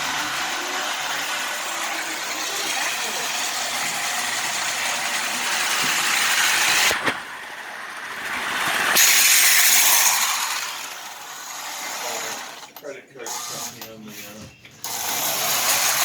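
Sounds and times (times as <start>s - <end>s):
model train motor hum: 0.0s - 14.0s, 14.8s - 16.0s
model train wheels rattling on rails: 0.0s - 14.0s, 14.8s - 16.0s.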